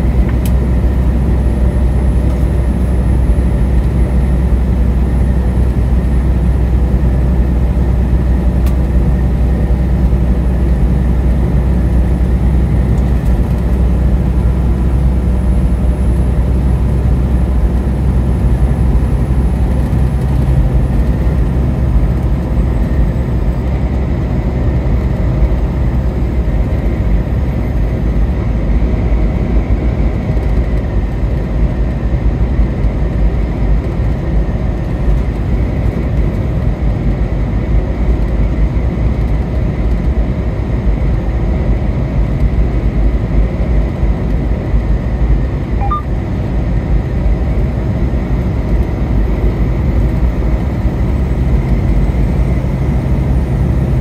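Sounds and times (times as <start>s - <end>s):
car driving at highway speed: 0.0s - 54.0s.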